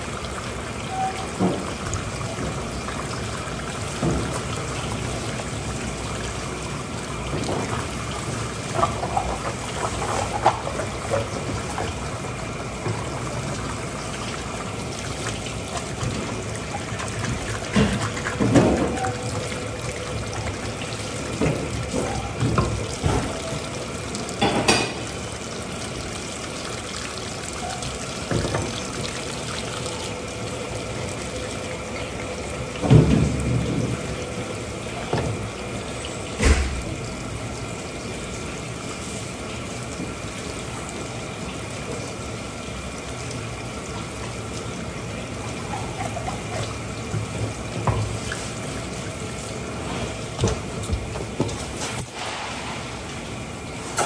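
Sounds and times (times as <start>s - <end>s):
water running from tap: 0.0s - 54.0s.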